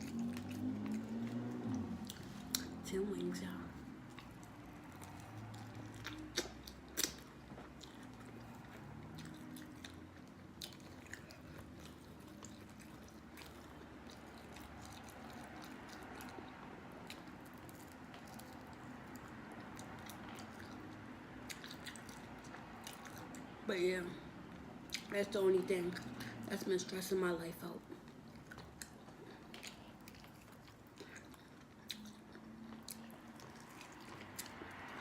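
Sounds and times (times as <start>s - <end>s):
person chewing food: 0.0s - 2.8s, 3.8s - 23.6s, 24.5s - 25.1s, 27.8s - 35.0s
faint low hum: 0.0s - 35.0s.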